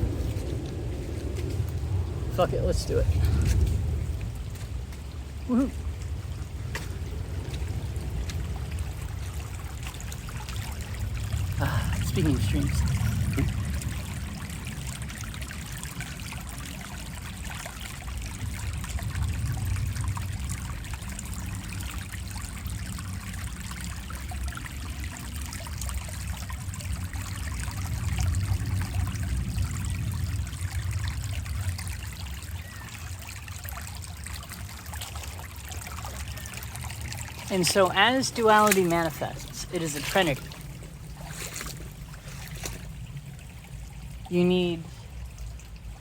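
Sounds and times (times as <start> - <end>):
low rumble: 0.0 - 16.6, 25.0 - 46.0
small stream trickling: 0.0 - 46.0.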